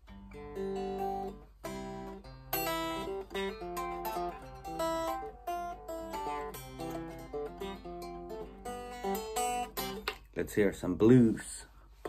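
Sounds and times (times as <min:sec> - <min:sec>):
unplugged electric guitar picking: 0:00.0 - 0:10.2.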